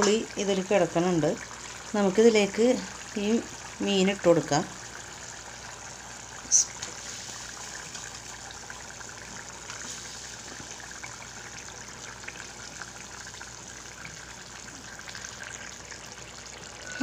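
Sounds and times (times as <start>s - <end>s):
curry bubbling and popping: 0.0s - 17.0s.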